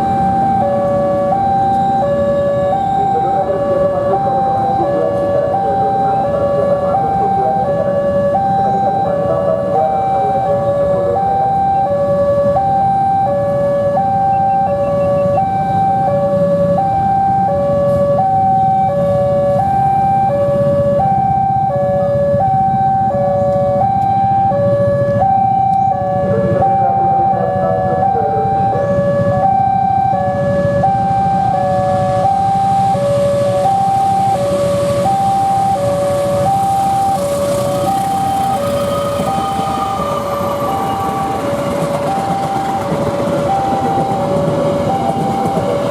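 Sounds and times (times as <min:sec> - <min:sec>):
level crossing two-tone alarm: 0:00.0 - 0:45.9.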